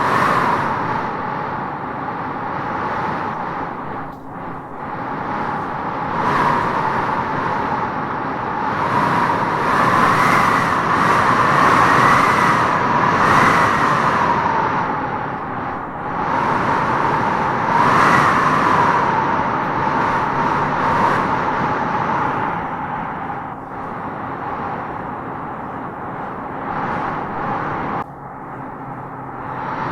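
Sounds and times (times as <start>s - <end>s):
wind howling through trees: 0.0s - 29.9s.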